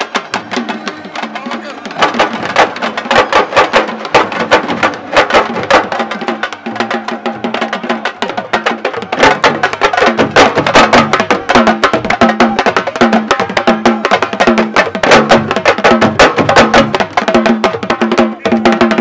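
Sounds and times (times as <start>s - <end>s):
fast drumming: 0.0s - 19.0s.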